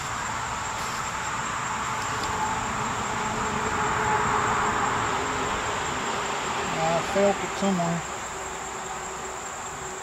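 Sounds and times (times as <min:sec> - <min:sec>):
high-pitched insect drone: 0:00.0 - 0:10.0
insect chorus: 0:00.0 - 0:10.0.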